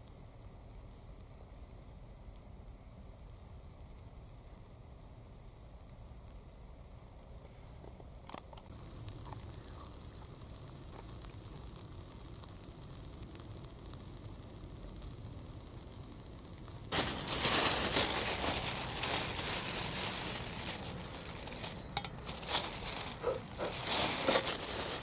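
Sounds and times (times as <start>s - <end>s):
campfire burning with hiss: 0.0s - 25.0s
fire pops and crackles: 0.0s - 25.0s.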